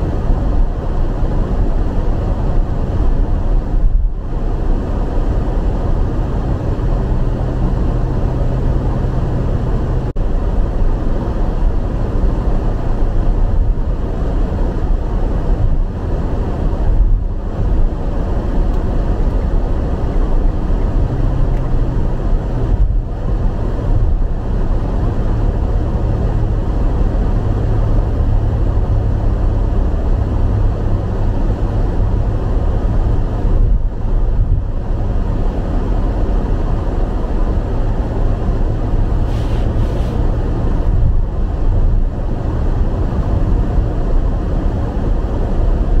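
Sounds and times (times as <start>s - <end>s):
tyre and engine rumble: 0.0s - 46.0s.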